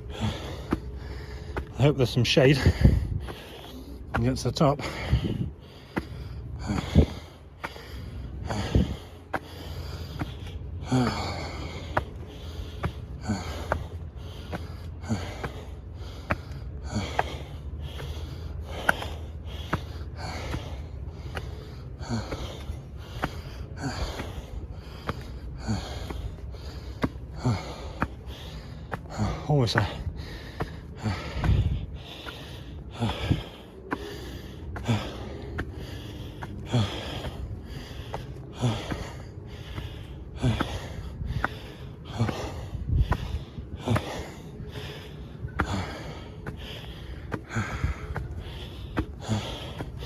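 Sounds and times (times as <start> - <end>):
man breathing hard: 0.0 - 50.0.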